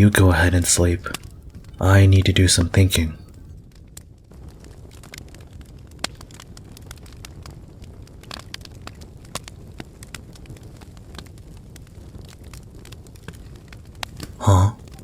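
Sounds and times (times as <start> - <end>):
fire low rumble: 0.0 - 15.0
wood fire crackling: 0.0 - 15.0.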